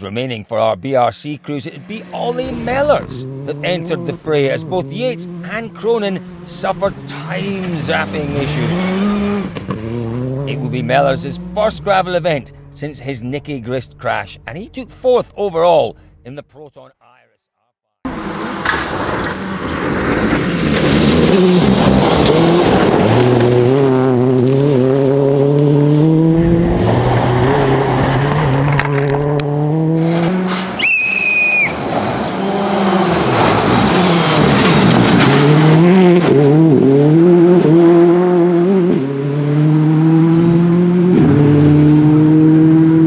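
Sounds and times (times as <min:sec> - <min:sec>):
rally car engine revving: 0:01.4 - 0:15.2, 0:18.0 - 0:43.0.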